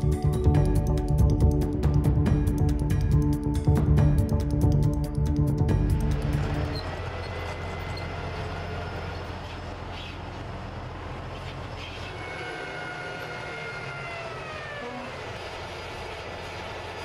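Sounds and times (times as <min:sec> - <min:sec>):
low engine rumble: 0:00.0 - 0:17.0
turbine engine high whine: 0:00.0 - 0:17.0.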